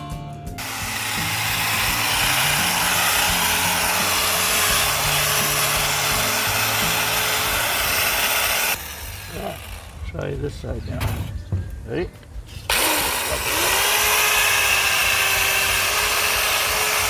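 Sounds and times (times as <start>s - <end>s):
background music with bass: 0.0s - 17.0s.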